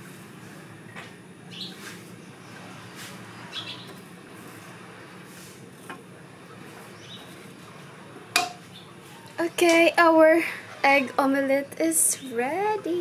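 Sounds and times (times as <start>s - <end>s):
birds chirping: 0.8s - 13.0s.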